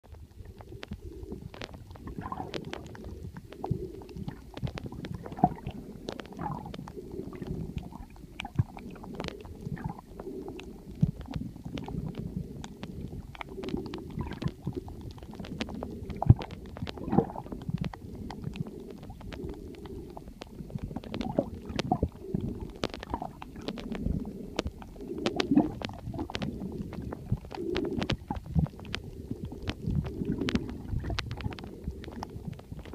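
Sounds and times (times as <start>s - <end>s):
sharp clicks and crackles: 0.0s - 32.9s
underwater rumbling and gurgling: 0.0s - 32.9s.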